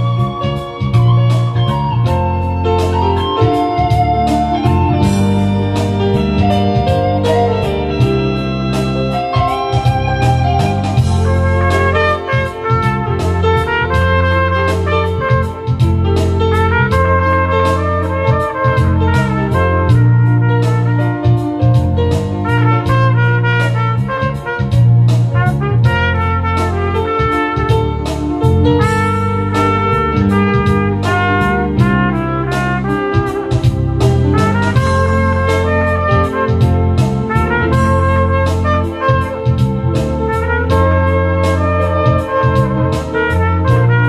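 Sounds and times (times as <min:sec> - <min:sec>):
backing track with bass and drums: 0:00.0 - 0:44.0
trumpet melody: 0:00.0 - 0:44.0.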